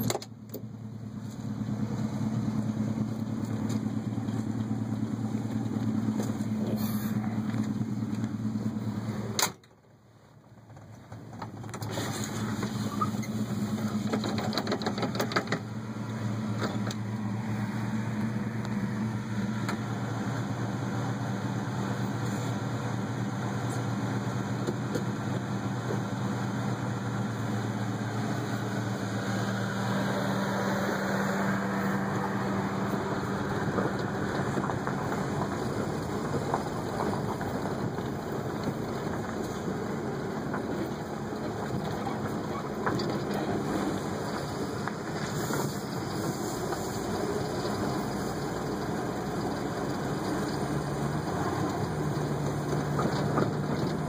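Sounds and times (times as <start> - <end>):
car engine hum: 0.0 - 54.0
tyres rumbling on gravel: 0.0 - 54.0.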